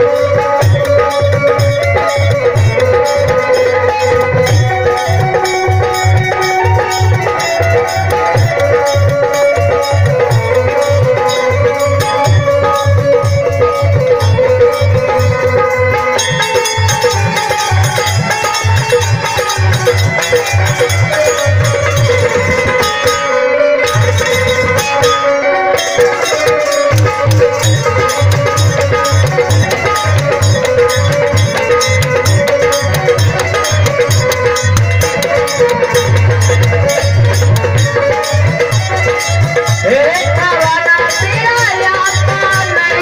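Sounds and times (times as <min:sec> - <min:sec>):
barrel drum rhythm: 0:00.0 - 0:43.0
electronic keyboard melody: 0:00.0 - 0:43.0
small hand cymbals: 0:00.0 - 0:43.0.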